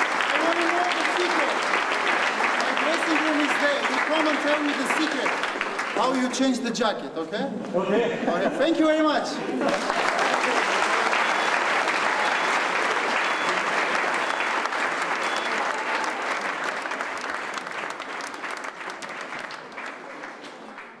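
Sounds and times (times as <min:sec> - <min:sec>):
audience applauding: 0:00.0 - 0:06.7, 0:09.5 - 0:21.0.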